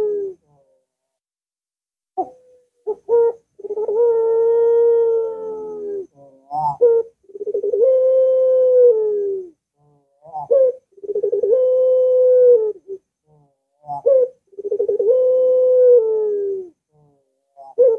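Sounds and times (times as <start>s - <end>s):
dove cooing: 0.0s - 0.6s, 2.2s - 17.9s.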